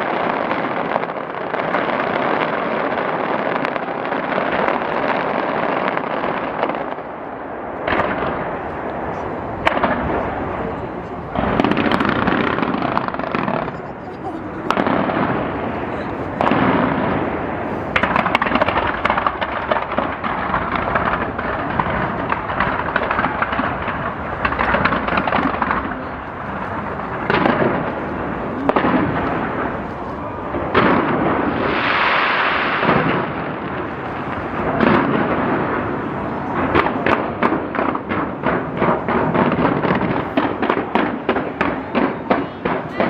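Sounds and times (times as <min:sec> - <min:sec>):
fireworks bangs: 0:00.0 - 0:43.0
fireworks crackling: 0:00.0 - 0:43.0.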